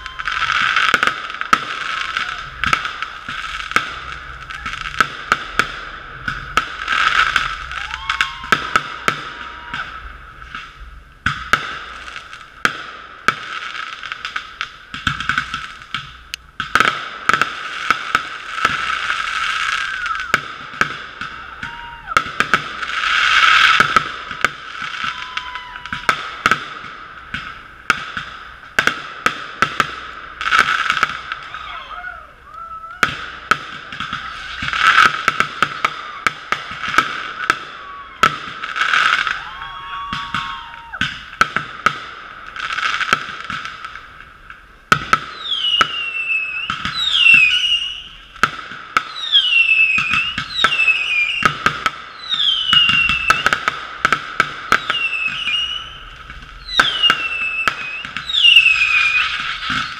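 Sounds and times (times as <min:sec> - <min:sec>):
fireworks crackling: 0:00.0 - 0:59.9
muffled fireworks bangs: 0:00.0 - 0:59.9.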